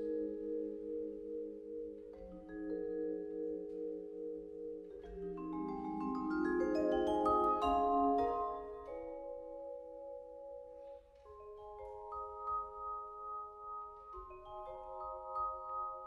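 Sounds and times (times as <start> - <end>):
tuned mallet percussion: 0.0 - 16.0.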